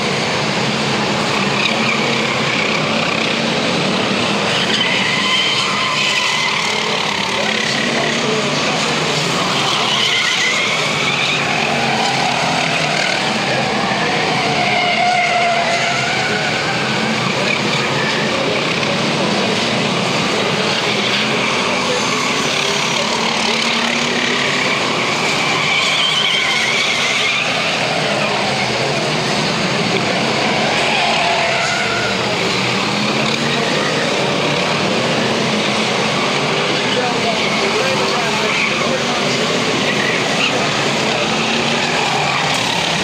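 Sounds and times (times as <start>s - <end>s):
racing car engines: 0.0s - 43.0s.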